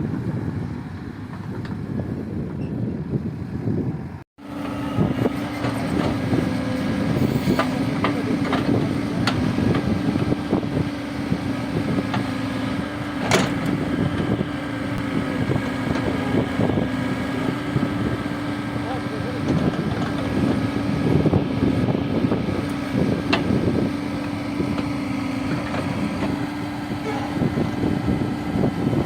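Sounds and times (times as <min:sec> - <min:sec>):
heavy machine engine running: 0:00.0 - 0:29.0.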